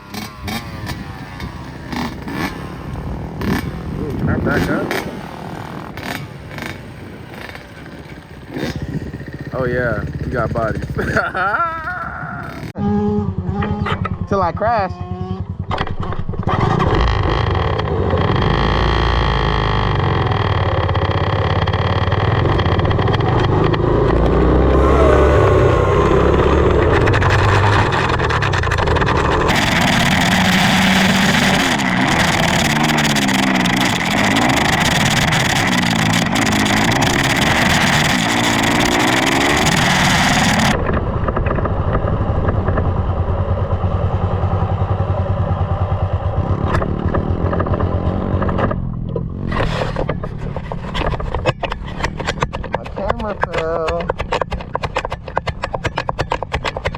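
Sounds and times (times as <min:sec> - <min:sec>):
dirt bike engine revving: 0:00.0 - 0:54.1.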